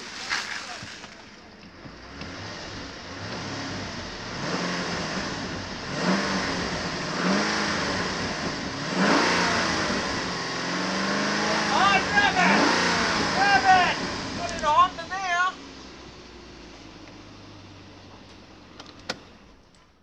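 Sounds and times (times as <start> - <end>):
car engine revving: 0.0 - 19.7.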